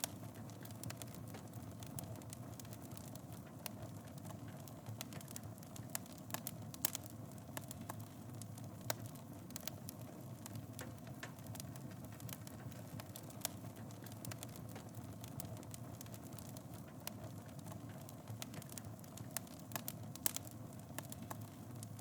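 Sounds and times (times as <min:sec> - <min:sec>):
fire crackles and pops: 0:00.0 - 0:22.0.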